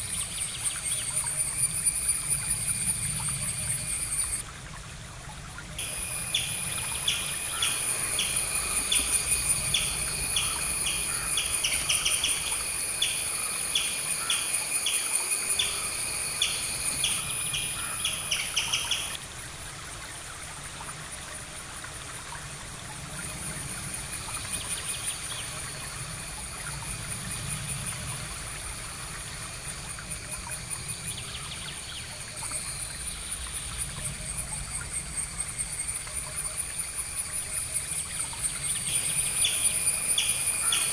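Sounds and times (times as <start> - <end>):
high insect drone: 0.0 - 4.5, 5.7 - 19.2, 20.1 - 40.9
insect chirps: 0.0 - 40.9.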